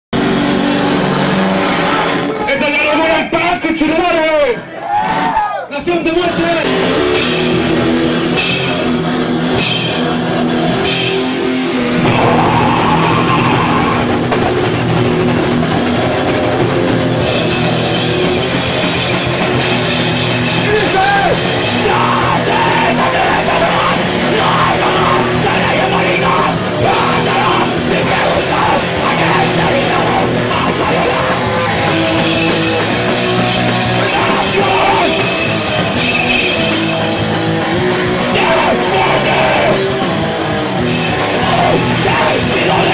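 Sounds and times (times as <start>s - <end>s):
drum kit: 0.1s - 4.2s, 6.0s - 42.9s
heavy metal band playing: 0.1s - 42.9s
electric guitar: 0.2s - 2.6s, 6.3s - 42.9s.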